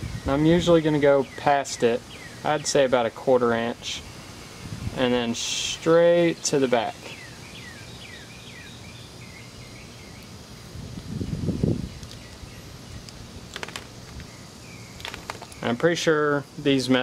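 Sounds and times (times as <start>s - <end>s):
birds chirping: 0.0s - 10.4s, 11.2s - 17.0s.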